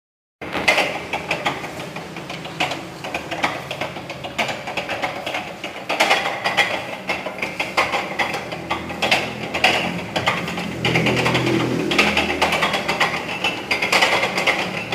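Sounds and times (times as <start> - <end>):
dough sheeter machine clattering: 0.4 - 14.9.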